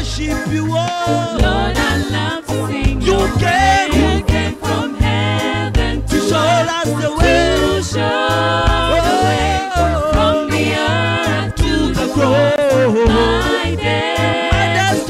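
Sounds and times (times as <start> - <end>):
drums: 0.0 - 8.0, 8.6 - 15.0
keyboard: 0.0 - 15.0
pulsing bass line: 0.0 - 15.0
people singing: 0.4 - 15.0.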